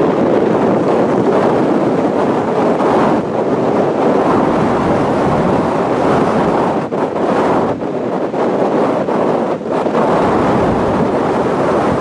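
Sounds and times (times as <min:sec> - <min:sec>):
surf breaking on shore: 0:00.0 - 0:12.0
wind blowing across microphone: 0:00.0 - 0:12.0.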